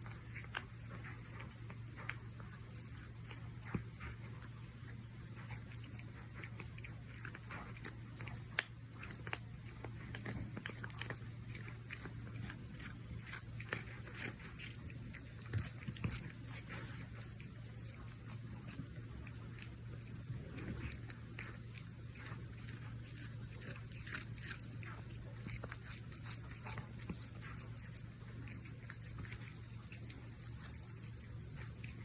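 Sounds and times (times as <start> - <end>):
cat licking and chewing claws: 0.0 - 32.0.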